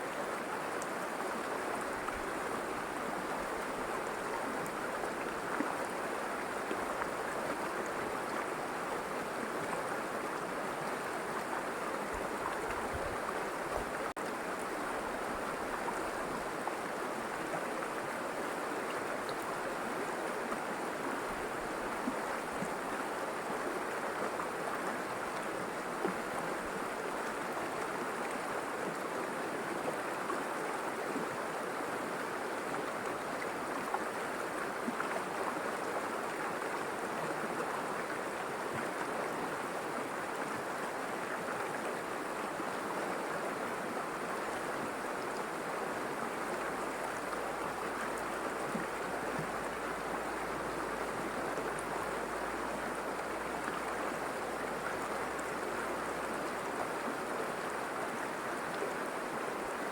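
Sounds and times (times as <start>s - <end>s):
river water flowing and splashing: 0.0s - 59.9s.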